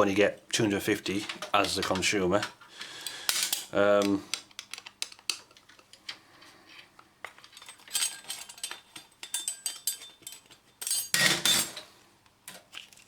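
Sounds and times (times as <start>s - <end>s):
clicks and rattles of small parts: 1.1s - 13.0s.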